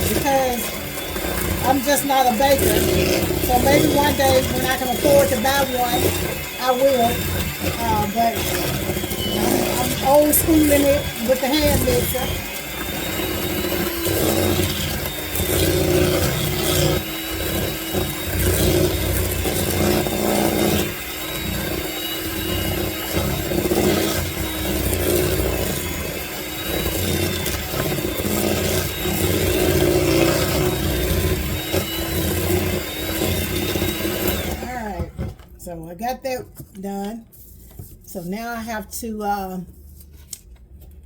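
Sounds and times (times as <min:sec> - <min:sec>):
electric hand mixer motor whine: 0:00.0 - 0:35.5
beaters churning in bowl: 0:00.0 - 0:35.6.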